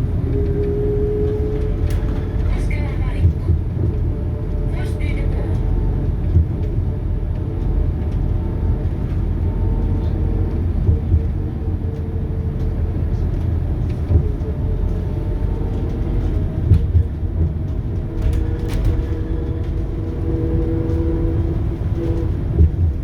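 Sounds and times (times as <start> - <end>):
bus diesel engine rumbling: 0.0 - 23.0.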